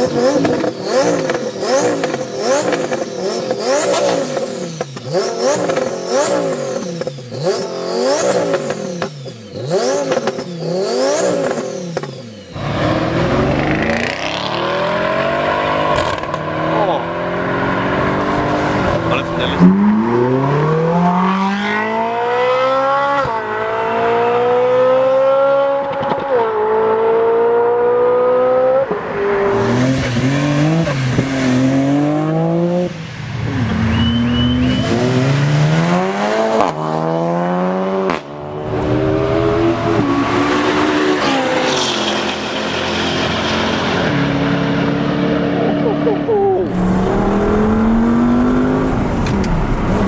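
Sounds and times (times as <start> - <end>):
cars revving and passing: 0.0 - 50.0
sports car engines accelerating: 0.0 - 50.0.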